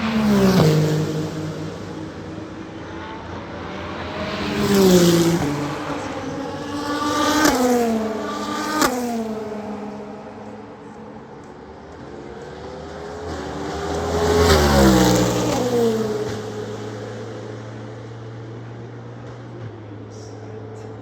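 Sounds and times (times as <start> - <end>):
race cars passing at high speed: 0.0 - 21.0.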